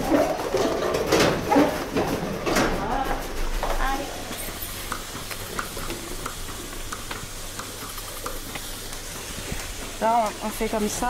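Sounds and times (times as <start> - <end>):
milking machine hiss and hum: 0.0 - 11.0.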